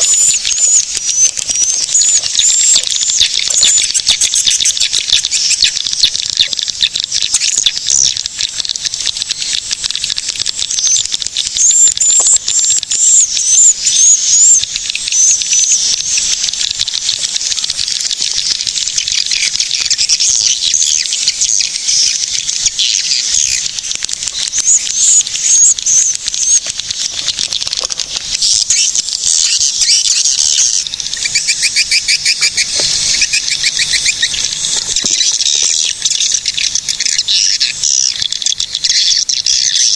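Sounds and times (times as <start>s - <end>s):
swiftlets chirping: 0.0s - 39.9s.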